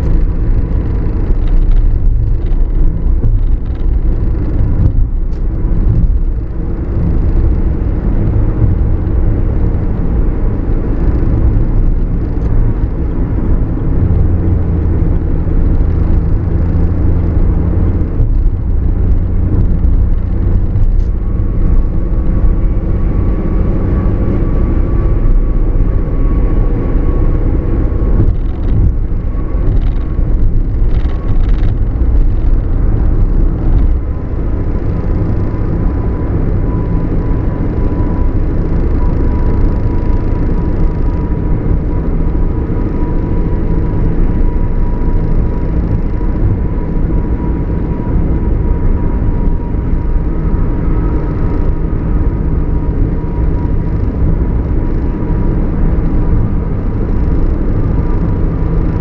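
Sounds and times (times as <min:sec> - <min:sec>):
car road noise rumble: 0:00.0 - 0:59.0
faint steady whine: 0:00.0 - 0:59.0.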